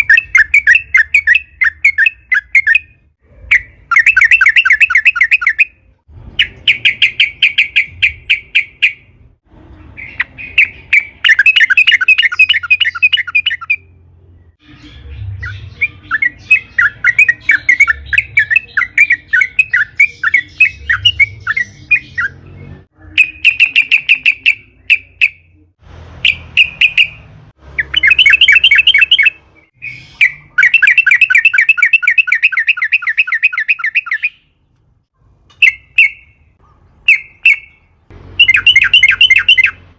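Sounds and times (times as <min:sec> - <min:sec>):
bird chattering song: 0:00.0 - 0:05.8, 0:06.4 - 0:09.2, 0:09.9 - 0:34.6, 0:35.5 - 0:39.8.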